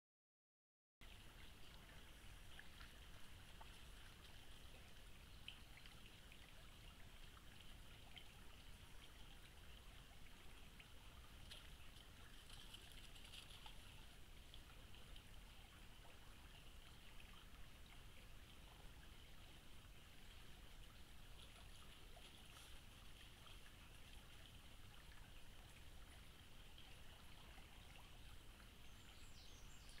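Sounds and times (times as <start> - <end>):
faint river flow: 1.0 - 30.0.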